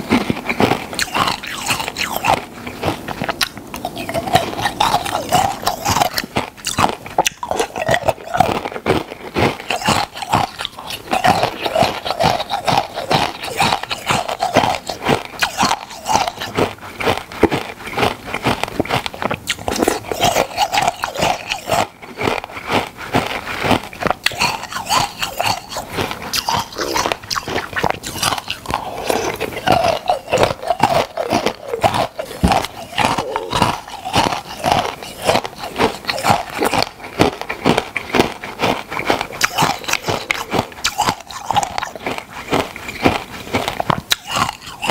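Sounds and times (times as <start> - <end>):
chewing crunchy ice: 0.0 - 44.9.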